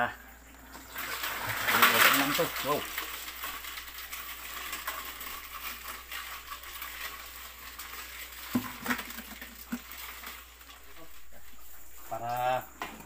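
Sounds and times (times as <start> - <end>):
crabs crawling crackle: 0.0 - 13.0.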